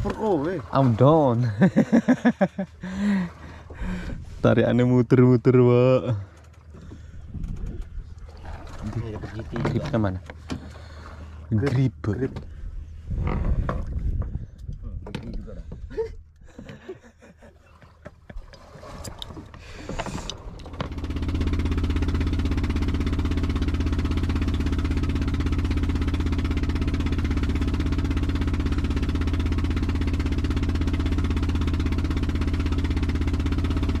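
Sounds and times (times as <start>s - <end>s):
boat engine running: 0.0s - 34.0s
water rushing along hull: 0.0s - 34.0s.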